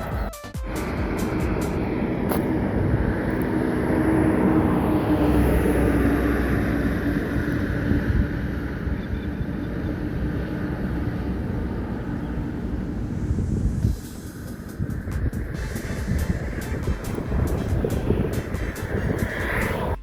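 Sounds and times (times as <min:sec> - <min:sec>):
vehicle passing on highway: 0:00.6 - 0:20.0
wind on microphone: 0:00.7 - 0:20.0.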